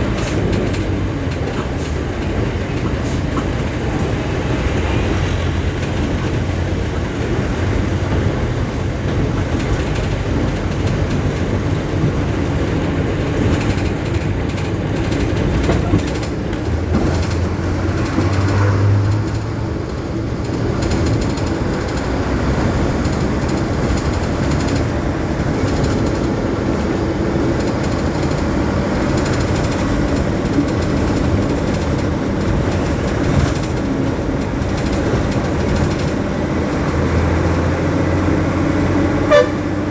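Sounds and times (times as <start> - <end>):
bus engine drone: 0.0 - 39.9
road rumble: 0.0 - 39.9.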